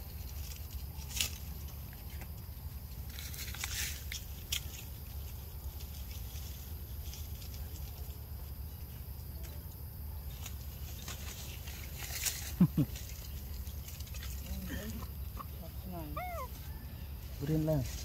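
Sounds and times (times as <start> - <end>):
dry rustles and scratches: 0.0 - 9.2, 10.2 - 18.0.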